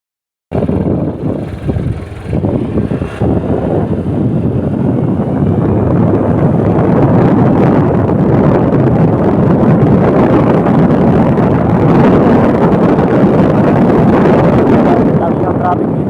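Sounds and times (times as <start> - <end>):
road traffic rumble: 0.5 - 16.0.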